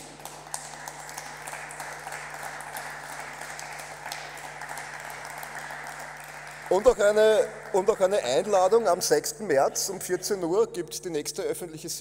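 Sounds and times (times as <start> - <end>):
many people clapping: 0.0 - 10.5.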